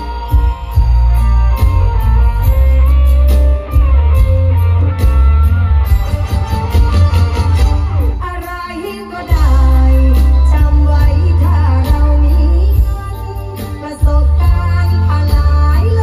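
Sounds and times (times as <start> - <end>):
drums: 0.0 - 16.0
plucked string lead melody: 0.0 - 16.0.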